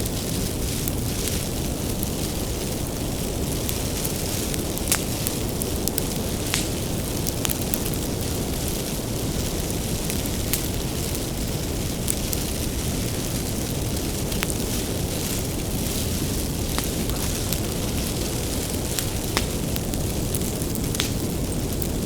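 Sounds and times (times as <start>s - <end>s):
bonfire burning with crackles: 0.0s - 22.0s.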